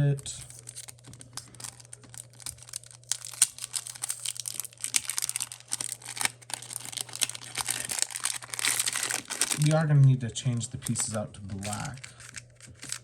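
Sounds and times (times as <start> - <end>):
plastic packaging crinkling and tearing: 0.0 - 9.8, 10.8 - 13.0
steady low hum: 0.0 - 13.0.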